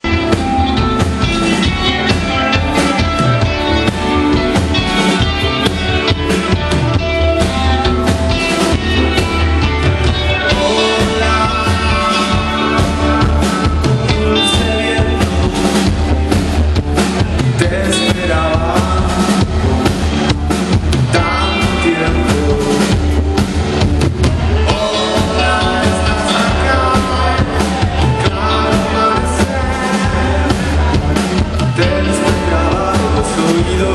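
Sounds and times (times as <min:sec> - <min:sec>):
person singing: 0:00.0 - 0:23.6, 0:24.2 - 0:33.9
drum kit beat: 0:00.0 - 0:33.9
rock band playing live: 0:00.0 - 0:33.9.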